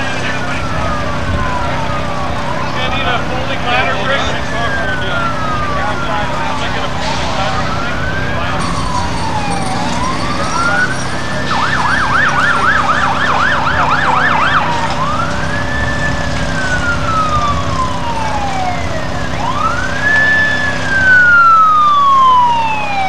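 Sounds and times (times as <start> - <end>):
emergency siren wailing and yelping: 0.0 - 23.0.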